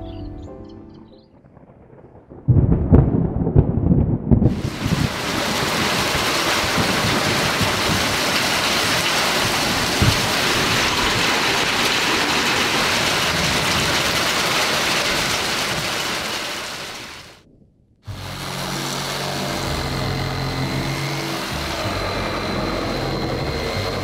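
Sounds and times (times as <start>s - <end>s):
heavy rain: 1.4s - 17.4s, 18.1s - 24.0s.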